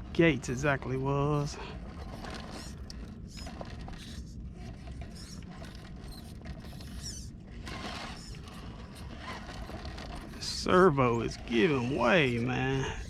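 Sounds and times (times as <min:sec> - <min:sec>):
tires scraping on stone: 0:00.0 - 0:13.0
rc car electric motor whirring: 0:00.4 - 0:13.0.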